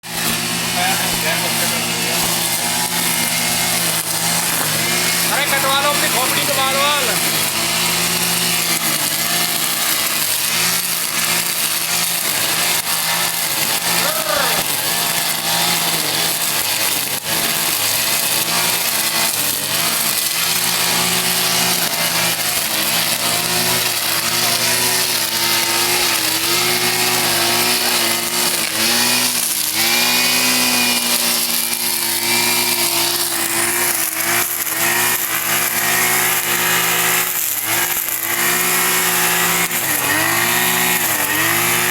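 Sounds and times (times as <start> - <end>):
brush cutter engine running: 0.0 - 41.9.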